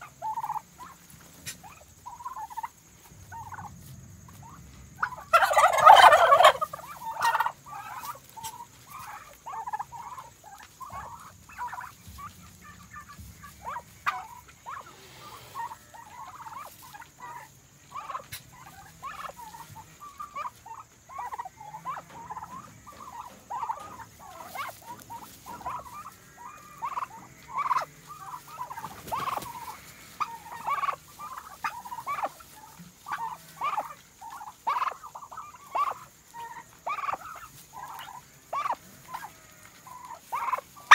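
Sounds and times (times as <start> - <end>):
hens chirping: 0.0 - 40.9
turkey gobble: 0.0 - 40.9.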